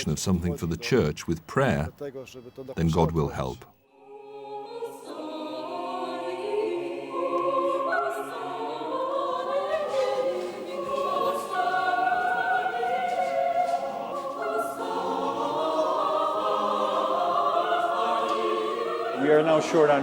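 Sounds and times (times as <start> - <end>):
choir singing a slow hymn: 3.9 - 20.0.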